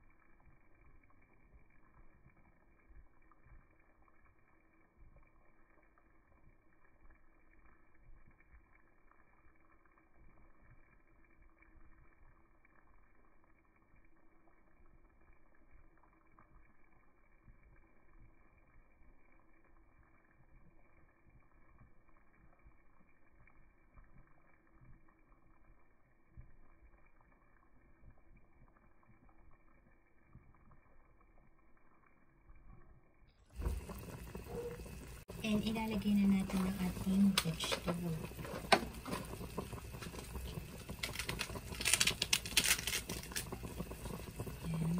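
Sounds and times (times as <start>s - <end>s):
sauce bubbling in a saucepan: 0.0s - 44.9s.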